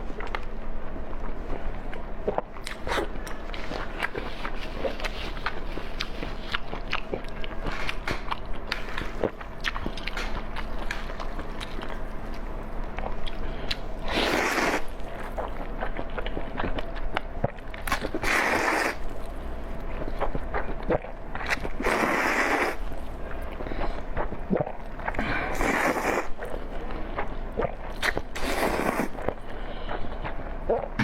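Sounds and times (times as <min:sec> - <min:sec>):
chewing and biting: 0:01.1 - 0:31.0.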